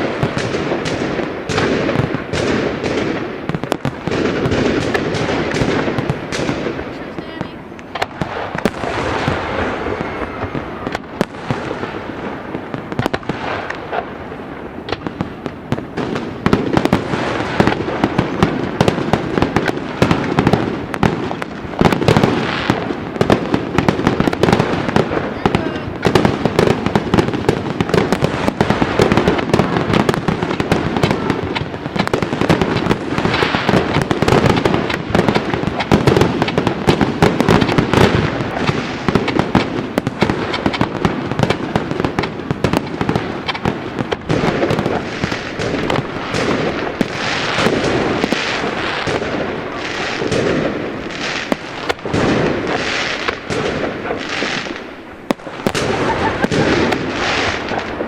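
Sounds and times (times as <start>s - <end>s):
fireworks crackling and bangs: 0.0s - 58.0s.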